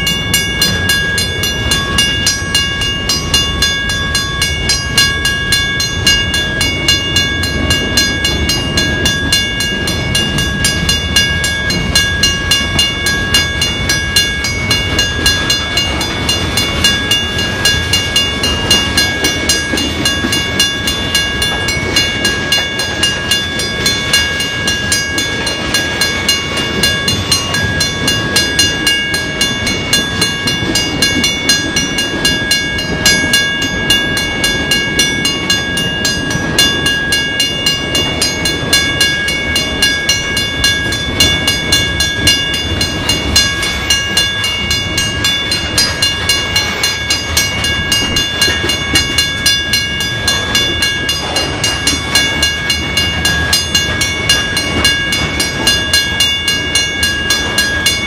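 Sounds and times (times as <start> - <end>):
crossing warning bell ringing: 0.0 - 58.0
freight cars rumbling: 0.0 - 58.0
train wheels clicking over rail joints: 0.0 - 58.0.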